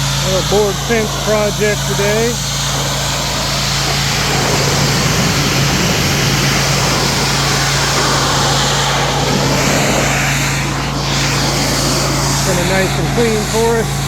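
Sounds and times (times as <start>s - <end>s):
pressure washer engine humming: 0.0s - 14.0s
water jet hissing on wood: 0.0s - 14.0s.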